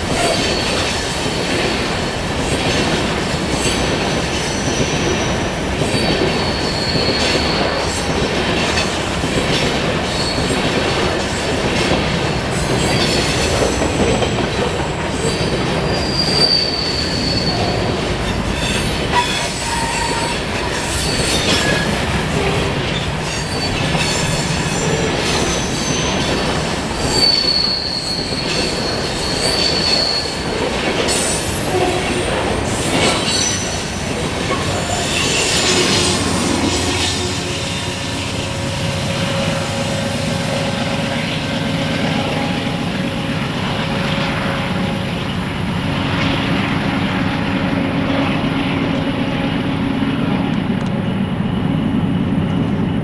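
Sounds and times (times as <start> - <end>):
low steady train rumble: 0.0 - 53.0
train wheels squealing: 0.0 - 53.0.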